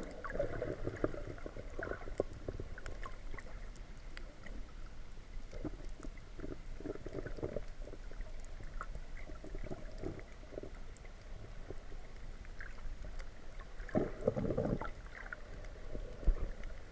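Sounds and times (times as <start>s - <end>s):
muffled underwater rumble: 0.0s - 16.9s
water sloshing and bubbling: 0.0s - 16.9s.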